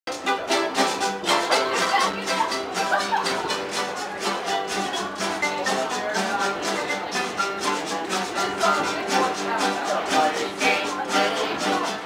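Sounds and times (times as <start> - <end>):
acoustic guitars strumming: 0.1 - 12.0
violin melody: 0.1 - 12.0.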